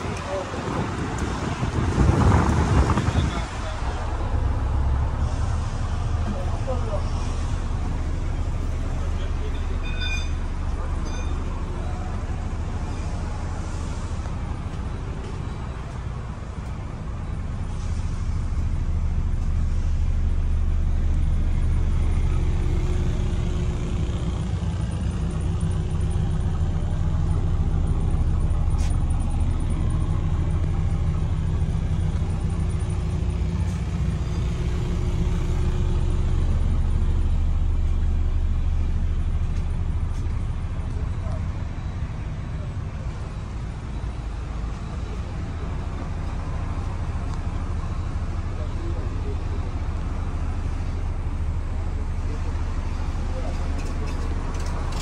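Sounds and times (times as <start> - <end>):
bus diesel engine idling: 0.0 - 55.0.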